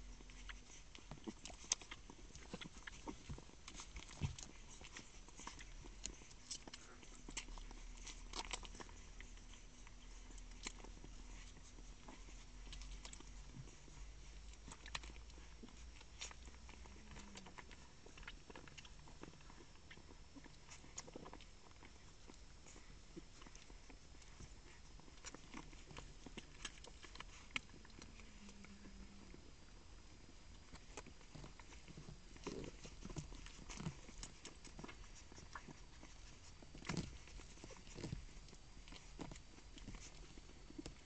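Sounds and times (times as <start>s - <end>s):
puppies suckling wet clicks: 0.0s - 41.0s
steady low hum: 0.0s - 41.0s.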